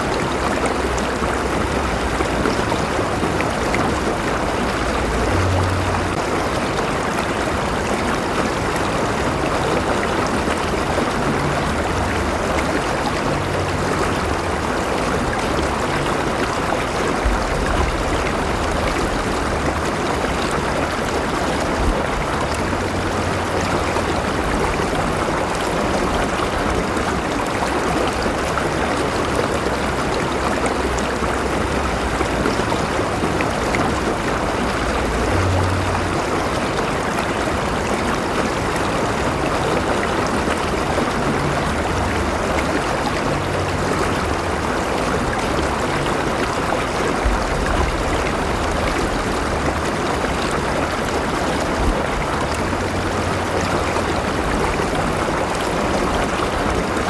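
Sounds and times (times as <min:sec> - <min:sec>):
river water flowing over stones: 0:00.0 - 0:57.0.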